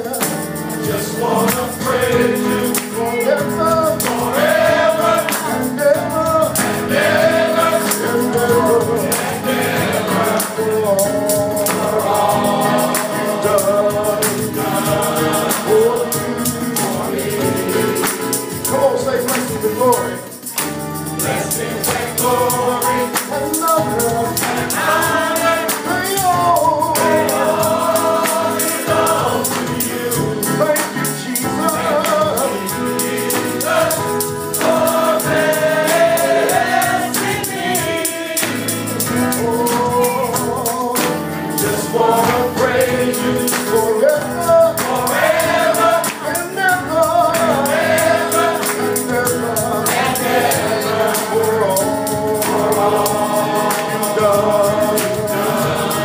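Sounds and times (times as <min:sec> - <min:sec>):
fast percussion beat: 0:00.0 - 0:56.0
men's choir singing in harmony: 0:00.0 - 0:56.0.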